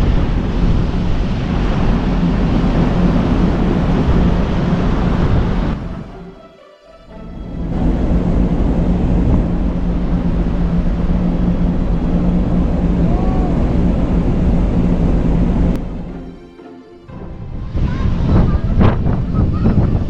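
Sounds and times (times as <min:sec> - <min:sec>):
wind rushing over microphone: 0:00.0 - 0:06.2, 0:07.3 - 0:16.2, 0:17.1 - 0:20.0
ferry engines droning: 0:00.0 - 0:20.0.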